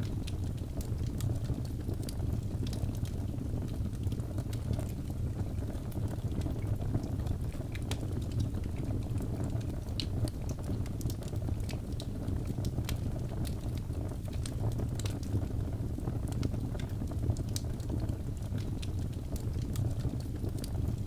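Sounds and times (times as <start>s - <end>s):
fire flames rumbling: 0.0s - 21.0s
logs crackling and popping: 0.0s - 21.0s.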